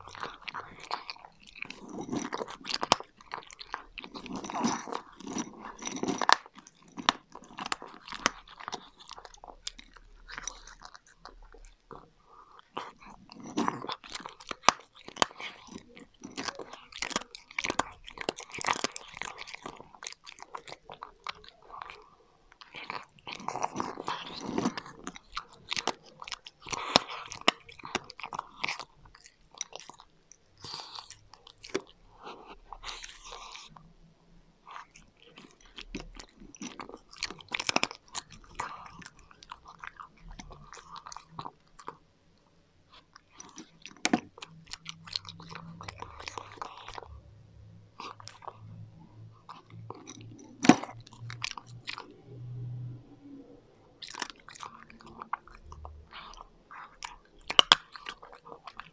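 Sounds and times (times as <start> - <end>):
cat crunching dry kibble: 0.0 - 42.0, 42.9 - 58.9.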